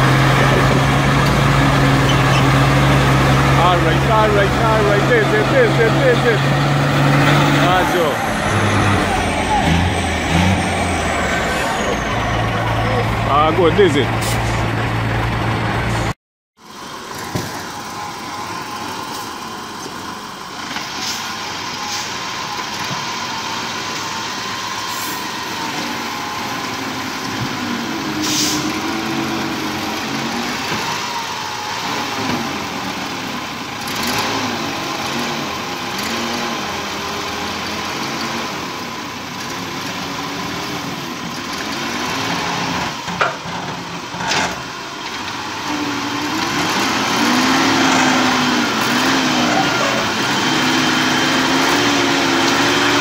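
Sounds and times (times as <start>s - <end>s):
truck diesel engine under load: 0.0s - 53.0s.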